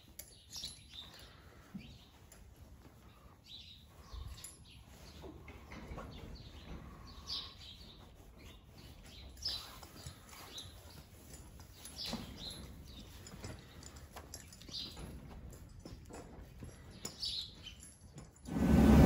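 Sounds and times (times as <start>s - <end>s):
small birds chirping: 0.0s - 15.6s, 16.6s - 18.2s.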